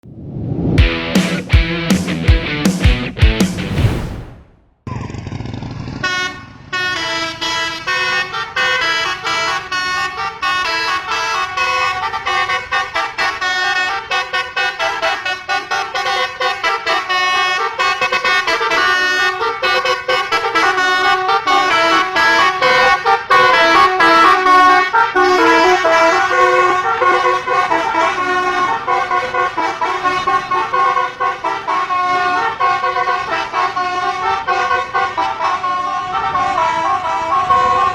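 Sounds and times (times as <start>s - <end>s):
musical bus horn tune: 6.0s - 37.9s.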